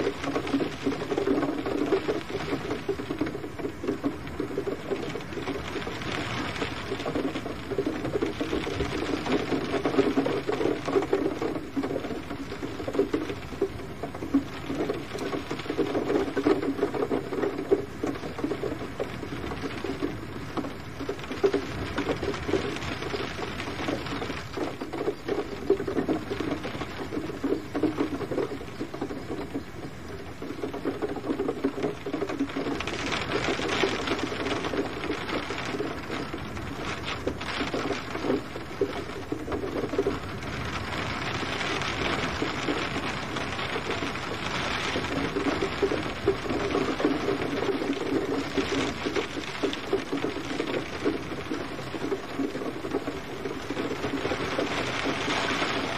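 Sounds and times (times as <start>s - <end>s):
gentle rain pattering: 0.0s - 55.9s.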